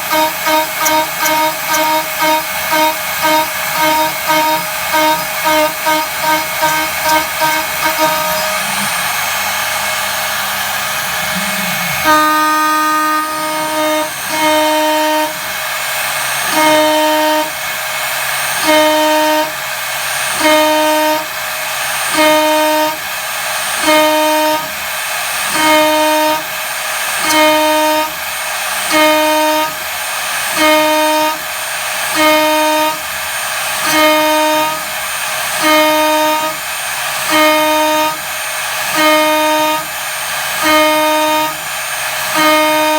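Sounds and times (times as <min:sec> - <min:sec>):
milling machine cutting whine: 0:00.0 - 0:42.9.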